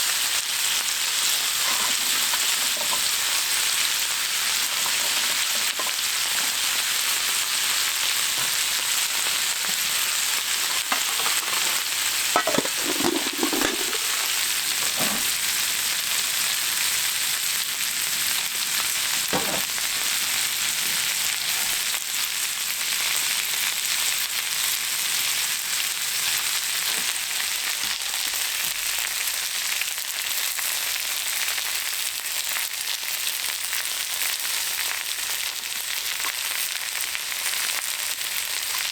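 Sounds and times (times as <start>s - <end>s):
food sizzling in a hot pan: 0.0s - 38.9s.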